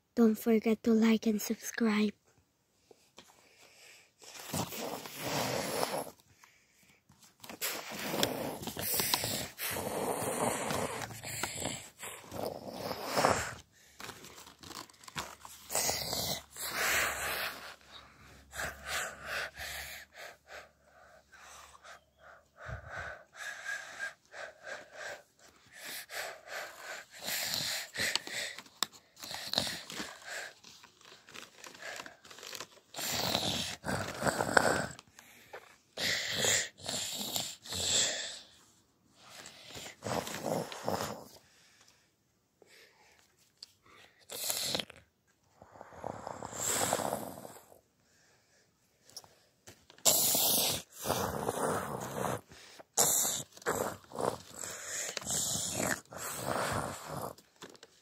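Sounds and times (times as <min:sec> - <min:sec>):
breathy mouth noises: 0:04.2 - 0:38.6, 0:39.2 - 0:41.4, 0:43.1 - 0:47.8, 0:49.9 - 0:58.0.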